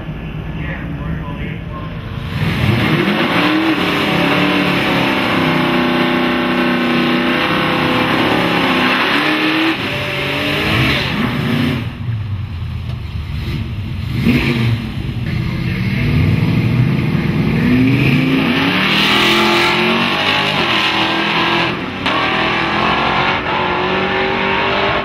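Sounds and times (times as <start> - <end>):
car engine revving high: 2.1 - 12.1, 13.3 - 25.0.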